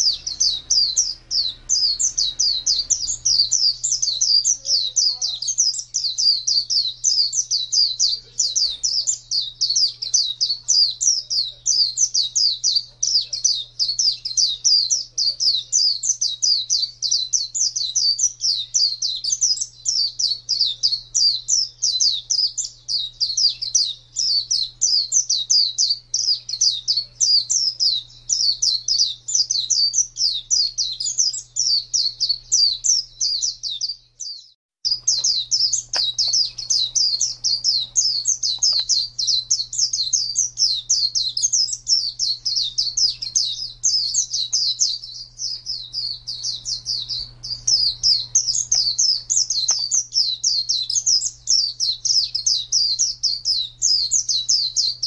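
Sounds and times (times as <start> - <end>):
bird chirping song: 0.0 - 55.0.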